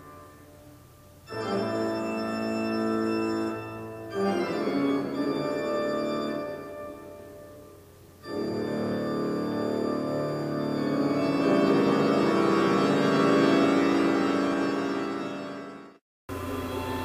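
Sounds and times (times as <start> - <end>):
music: 0.0 - 17.0
organ playing held chords: 0.0 - 17.0.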